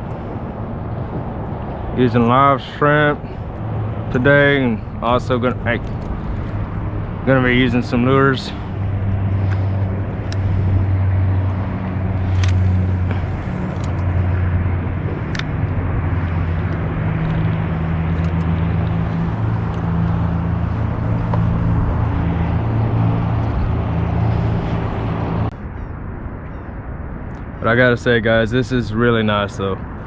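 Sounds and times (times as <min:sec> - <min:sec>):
low engine drone: 0:00.0 - 0:30.0.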